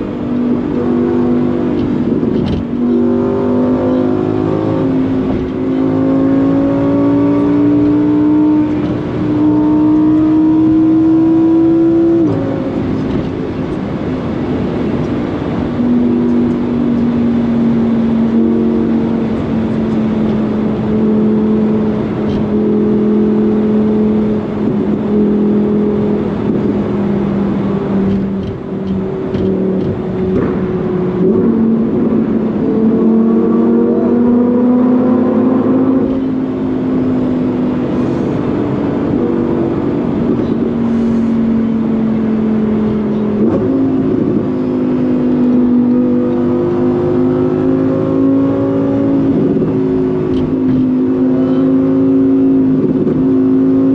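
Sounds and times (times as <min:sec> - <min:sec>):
sports car engine accelerating: 0:00.0 - 0:53.9.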